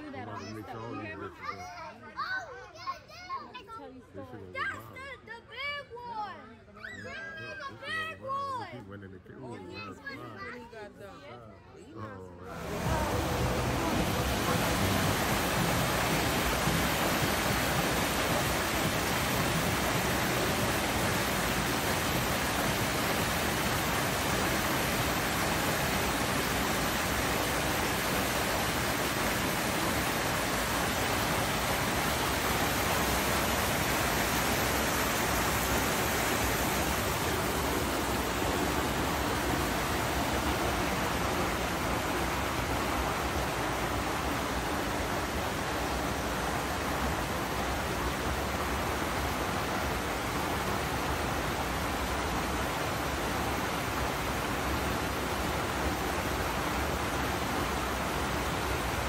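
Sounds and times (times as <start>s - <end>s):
small waterfall splashing: 0.0s - 3.8s, 6.8s - 8.8s, 12.5s - 59.0s.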